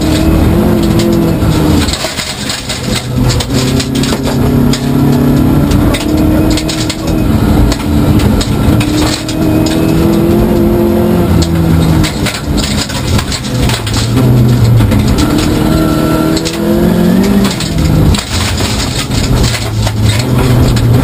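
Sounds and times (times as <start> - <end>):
gravel hitting car underbody: 0.0 - 10.4, 11.3 - 21.0
rally car engine revving: 0.0 - 21.0.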